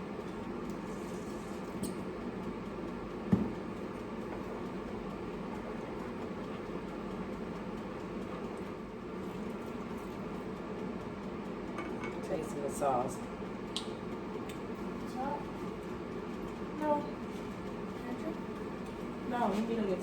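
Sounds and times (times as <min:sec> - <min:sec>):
kitchen appliance fan hum: 0:00.0 - 0:20.0.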